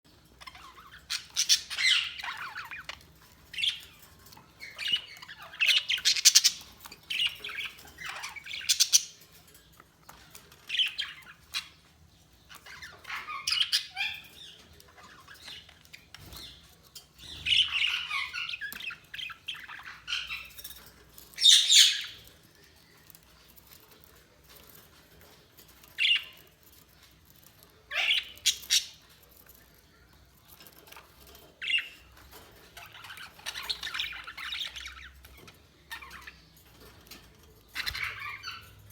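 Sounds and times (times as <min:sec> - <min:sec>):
budgerigars chattering and squawking: 0:00.3 - 0:09.3, 0:10.1 - 0:22.4, 0:25.2 - 0:29.2, 0:30.6 - 0:38.9.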